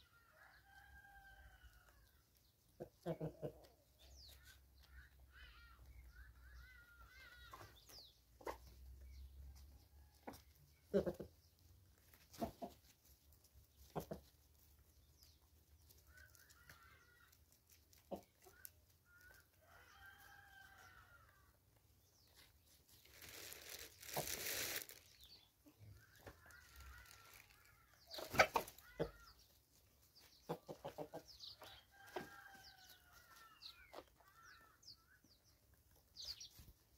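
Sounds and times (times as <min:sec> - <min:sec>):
chickens clucking: 0:02.4 - 0:21.2, 0:23.1 - 0:34.3.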